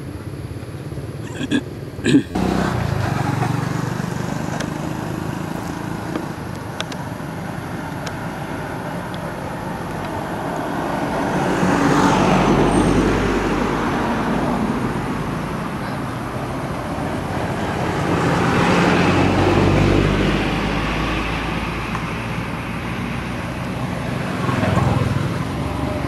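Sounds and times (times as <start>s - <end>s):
traffic hum: 0.0s - 26.0s
vehicle passing: 2.4s - 26.0s.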